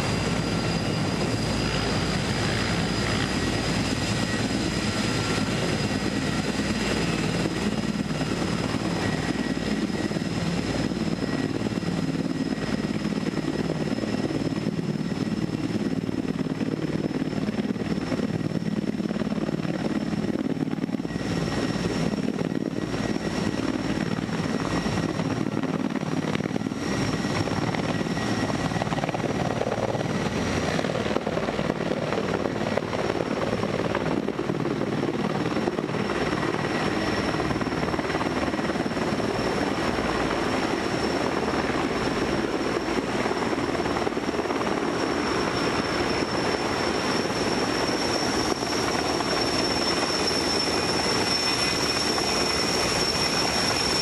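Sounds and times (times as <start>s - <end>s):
helicopter rotor and engines: 0.0s - 54.0s
high turbine whine: 0.0s - 54.0s.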